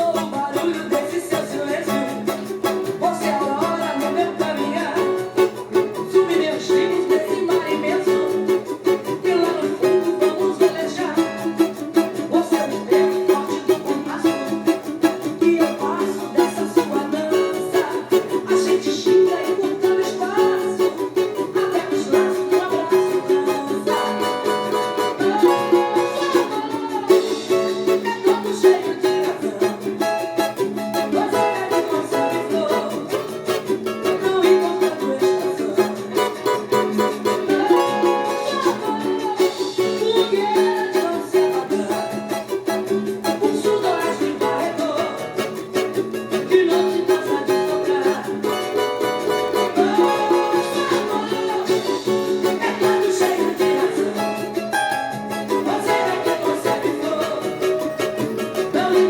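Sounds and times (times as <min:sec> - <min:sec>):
cavaquinho strumming: 0:00.0 - 0:59.0.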